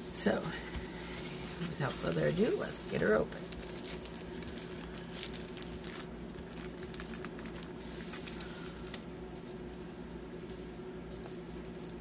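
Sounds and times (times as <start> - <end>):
plastic film crinkling: 0.3 - 12.0.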